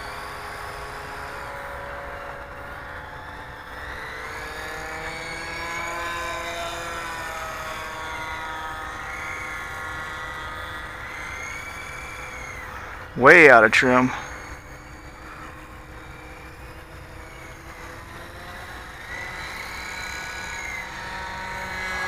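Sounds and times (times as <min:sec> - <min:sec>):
rc helicopter rotors whining: 0:00.0 - 0:22.0.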